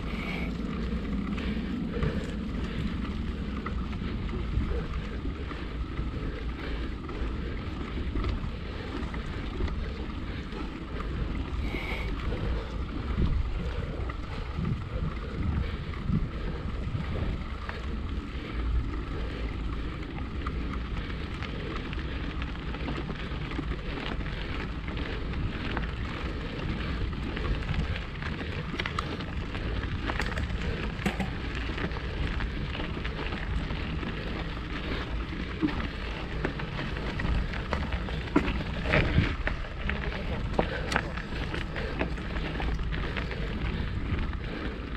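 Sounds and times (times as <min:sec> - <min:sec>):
bike tyres rolling over gravel: 0:00.0 - 0:44.9
wind rumbling on microphone: 0:00.0 - 0:44.9.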